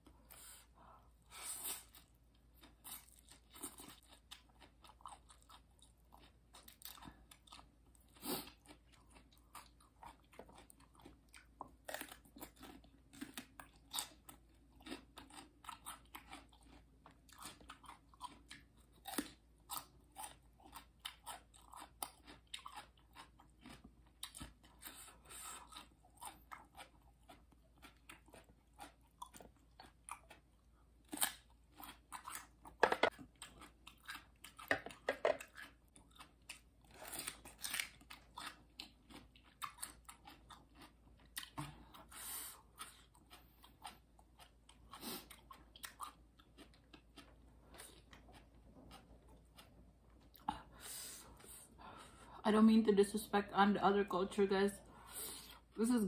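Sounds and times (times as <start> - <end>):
crisp chewing crunches: 1.4 - 50.8.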